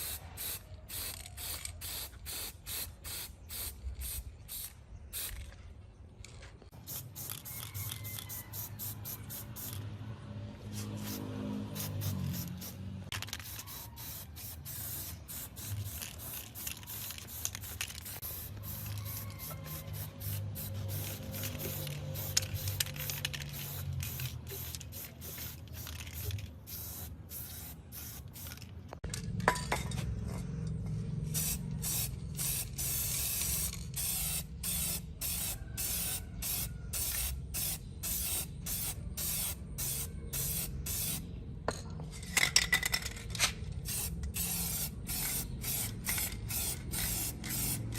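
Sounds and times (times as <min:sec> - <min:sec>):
hissing spray bursts: 0:00.0 - 0:05.3, 0:06.8 - 0:09.7, 0:10.7 - 0:28.5, 0:31.3 - 0:41.2, 0:43.9 - 0:47.9.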